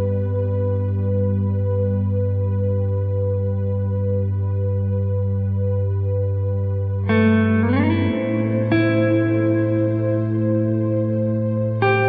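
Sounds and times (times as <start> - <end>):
held synthesizer chord: 0.0 - 12.0
low sustained drone: 0.0 - 12.0.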